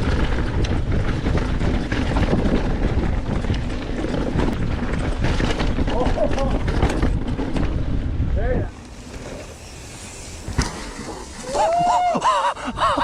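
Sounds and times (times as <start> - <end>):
bike clicks and rattles: 0.0 - 13.0
wind buffeting microphone: 0.0 - 13.0.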